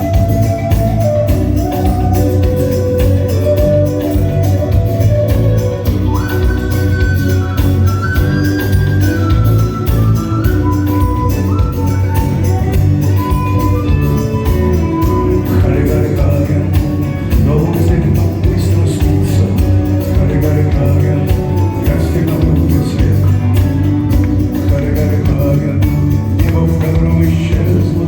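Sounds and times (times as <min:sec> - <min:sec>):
bass: 0:00.0 - 0:28.0
drum beat: 0:00.0 - 0:28.0
keyboards: 0:00.0 - 0:28.0
lead instrument melody: 0:00.0 - 0:28.0.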